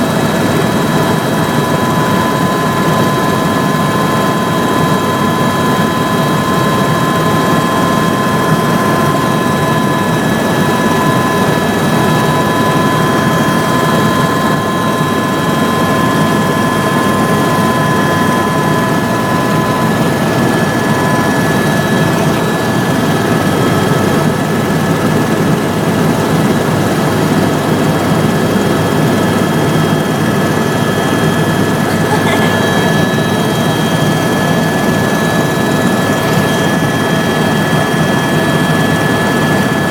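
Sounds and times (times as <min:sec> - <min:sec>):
helicopter rotor and engine: 0:00.0 - 0:39.9
high whining tones: 0:00.1 - 0:24.9, 0:29.1 - 0:39.7.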